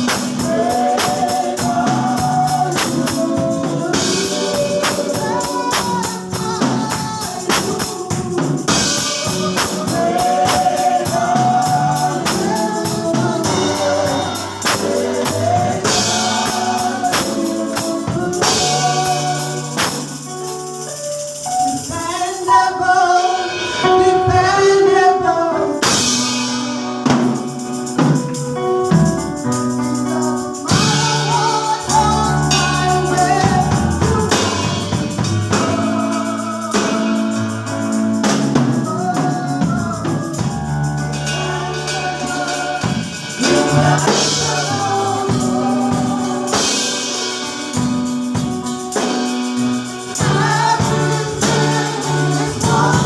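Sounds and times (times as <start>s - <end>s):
tambourine beat: 0.0s - 22.9s, 25.8s - 53.0s
voices singing: 0.0s - 25.8s, 30.0s - 47.8s, 48.6s - 53.0s
drum kit: 0.0s - 53.0s.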